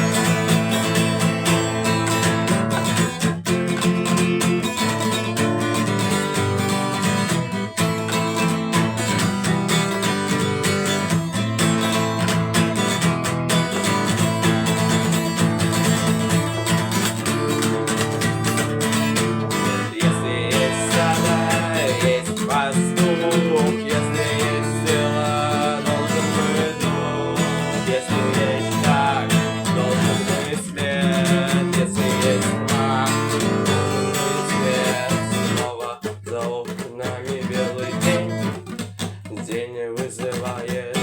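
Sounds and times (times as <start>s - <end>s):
guitar melody with bent notes: 0.0s - 39.5s
strummed guitar chords: 0.0s - 41.0s.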